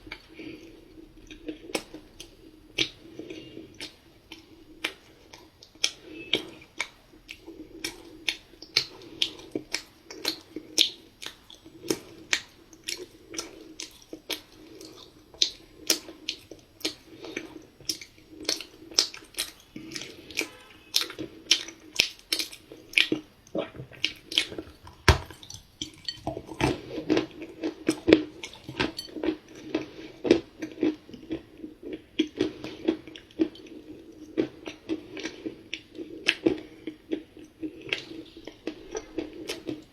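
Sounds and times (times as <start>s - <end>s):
soft chewing: 0.0s - 39.9s.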